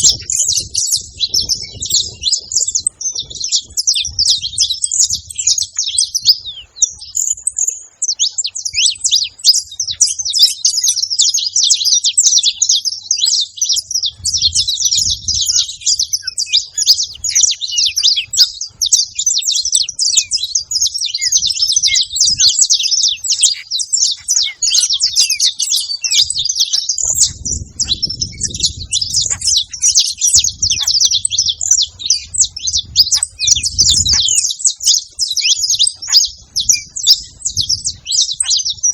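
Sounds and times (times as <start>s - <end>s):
finch singing chirps and trills: 0.0s - 38.9s.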